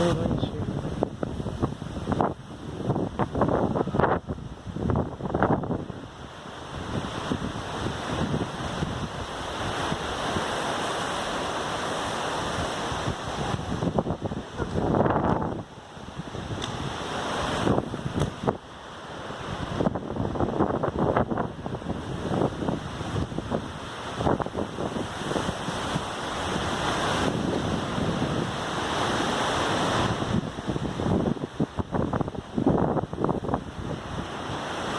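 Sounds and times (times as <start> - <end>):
storm wind buffeting microphone: 0.0 - 34.9.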